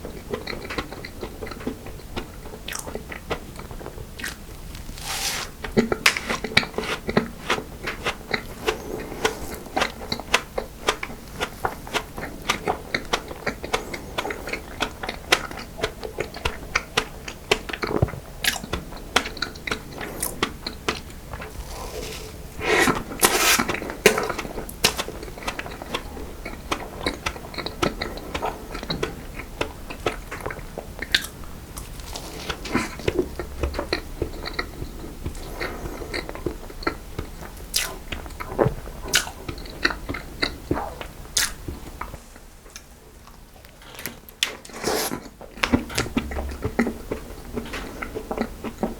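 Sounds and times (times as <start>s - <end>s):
wet chewing and smacking: 0.1s - 48.9s.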